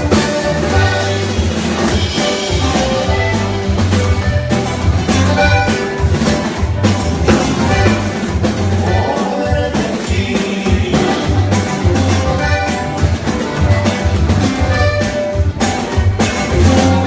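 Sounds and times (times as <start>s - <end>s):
recorded norteno song with bass and drums: 0.0s - 17.0s.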